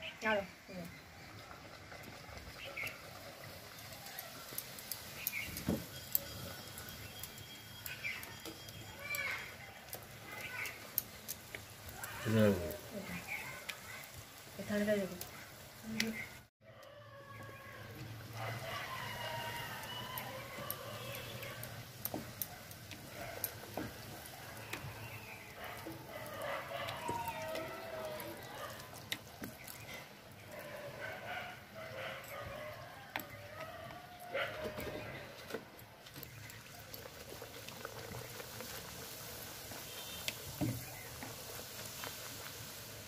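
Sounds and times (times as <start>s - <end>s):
dough sizzling in hot oil: 0.0s - 16.5s, 17.1s - 43.0s
sharp crackles and clicks: 0.1s - 43.0s.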